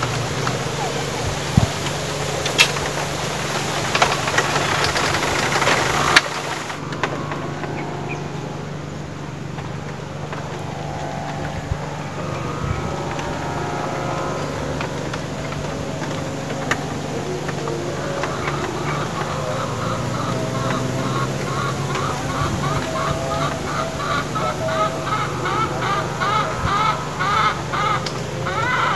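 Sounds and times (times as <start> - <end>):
low motor hum: 0.0 - 28.9.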